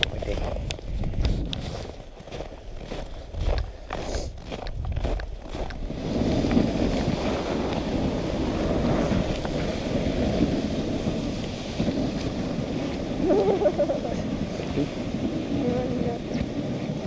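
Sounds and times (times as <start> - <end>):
sled runners rushing over snow: 0.0 - 17.0
wind on microphone: 0.0 - 17.0.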